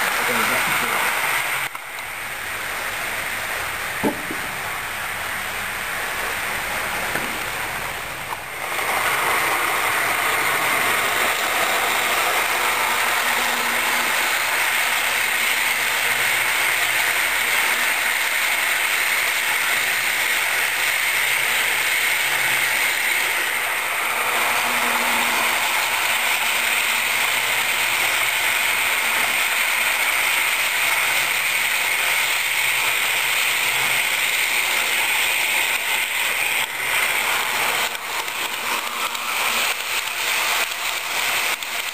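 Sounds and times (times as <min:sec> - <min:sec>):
model train wheels rattling: 0:08.3 - 0:41.9.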